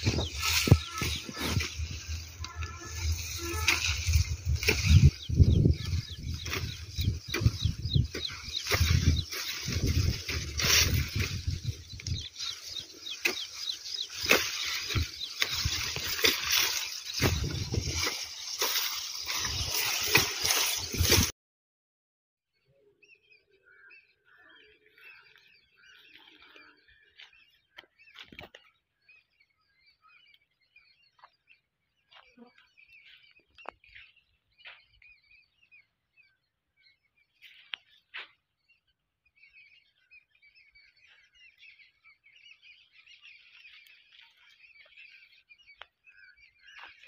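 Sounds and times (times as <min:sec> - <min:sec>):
faint birds chirping: 0:00.0 - 0:21.3, 0:22.5 - 0:47.0.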